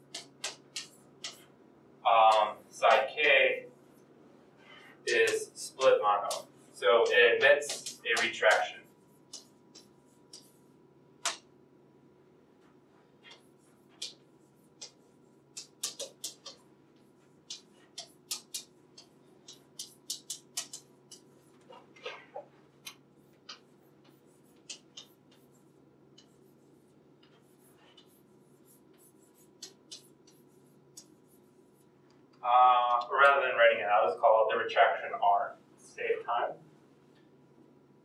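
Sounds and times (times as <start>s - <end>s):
chalk tapping and scraping on blackboard: 0.0s - 1.6s, 2.2s - 4.0s, 4.6s - 11.5s, 12.6s - 33.4s
faint room hum: 0.0s - 38.0s.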